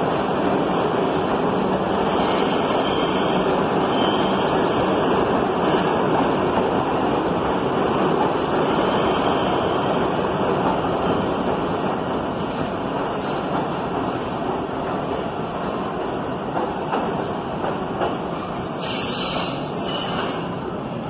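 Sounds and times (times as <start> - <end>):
subway train passing: 0.0 - 21.0.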